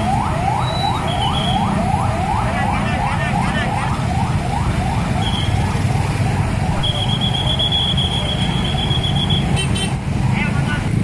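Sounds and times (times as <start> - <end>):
siren yelping: 0.0 - 10.8
idling engines rumbling: 0.0 - 11.0.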